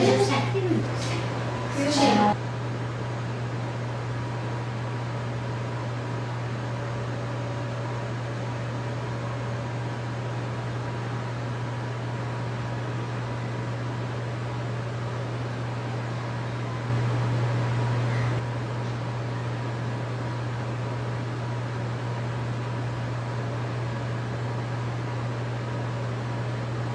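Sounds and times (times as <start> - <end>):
ventilation machinery humming: 0.0 - 26.9.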